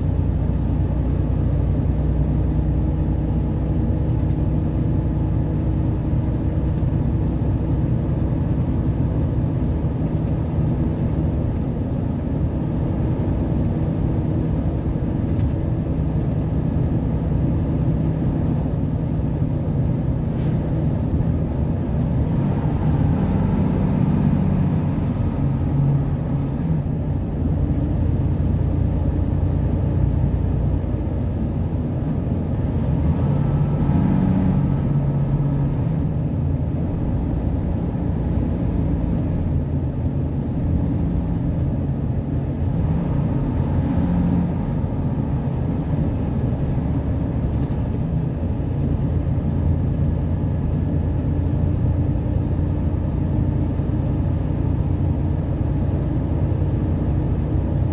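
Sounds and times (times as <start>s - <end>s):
engine drone: 0.0s - 57.9s
road noise: 0.0s - 57.9s.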